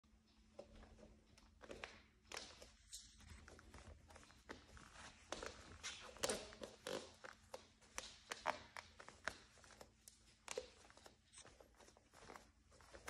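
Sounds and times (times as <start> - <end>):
barefoot footsteps: 0.4 - 13.0
wooden floor creaking: 0.6 - 13.0.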